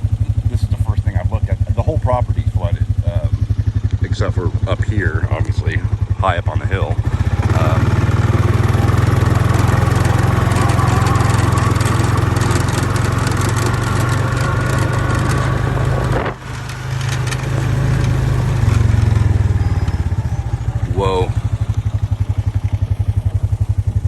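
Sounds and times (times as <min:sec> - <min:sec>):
small vehicle engine humming: 0:00.0 - 0:24.0.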